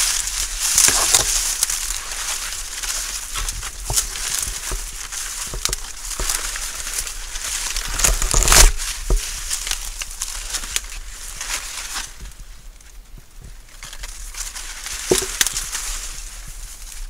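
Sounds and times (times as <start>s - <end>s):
dry corn leaves rustling: 0.0s - 17.0s.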